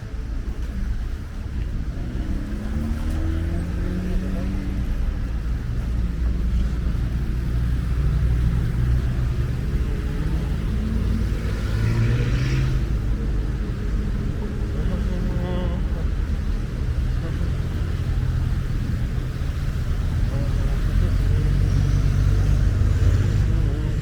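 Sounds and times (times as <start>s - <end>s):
car engines rumbling: 0.0s - 24.0s
tyres hissing on wet road: 0.1s - 24.0s.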